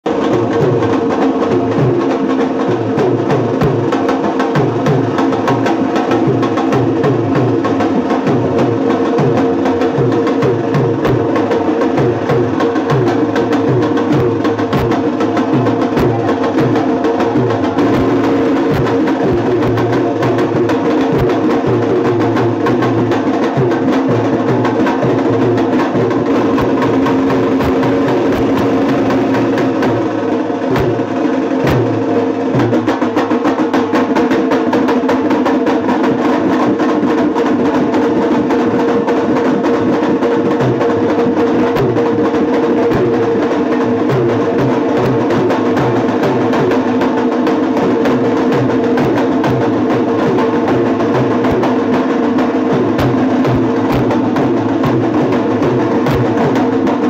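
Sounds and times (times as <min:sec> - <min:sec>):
loud music with fast drumming: 0:00.1 - 0:57.0.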